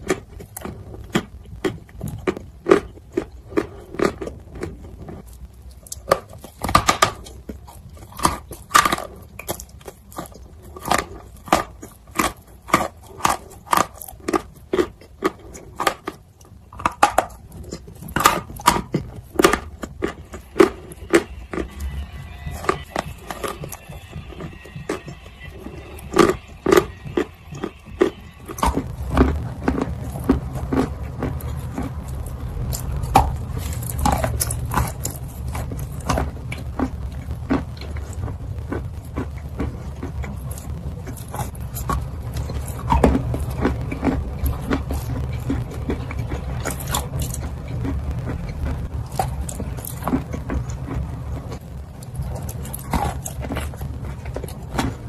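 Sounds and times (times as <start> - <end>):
steady low hum: 0.0 - 55.0
wet chewing crunches: 0.0 - 55.0.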